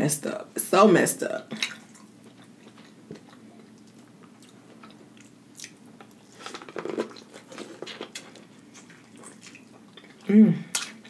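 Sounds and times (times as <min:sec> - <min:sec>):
chewing corn on the cob: 0:01.9 - 0:11.0.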